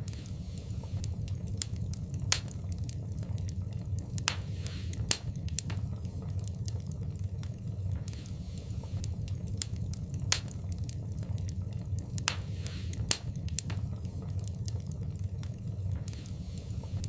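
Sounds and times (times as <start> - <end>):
fire hissing: 0.0 - 17.0
wood fire crackling: 0.0 - 17.0.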